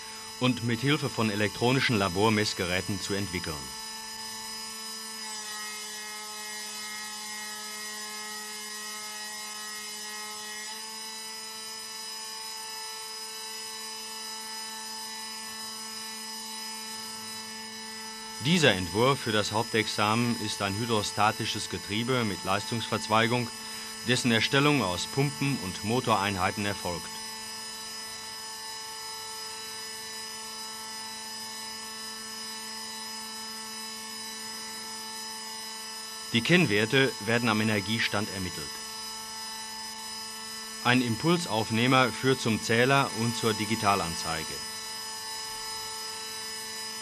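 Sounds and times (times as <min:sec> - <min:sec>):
steady machine whine: 0:00.0 - 0:47.0.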